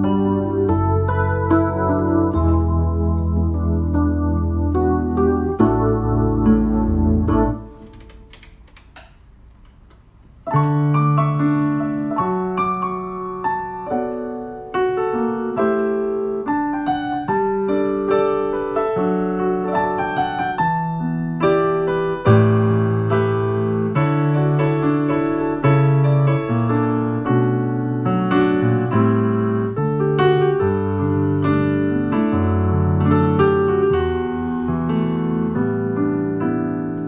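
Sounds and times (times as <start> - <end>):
solo piano: 0.0 - 9.5, 10.3 - 37.0.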